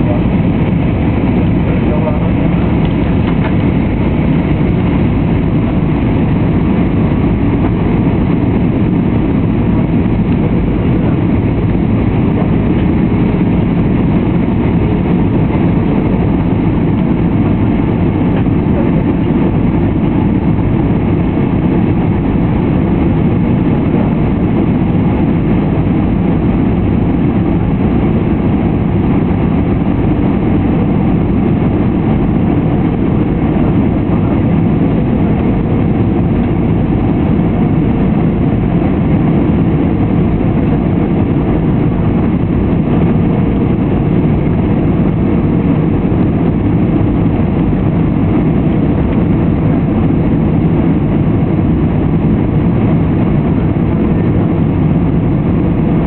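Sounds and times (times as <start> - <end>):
aircraft cabin engine roar: 0.0 - 56.0.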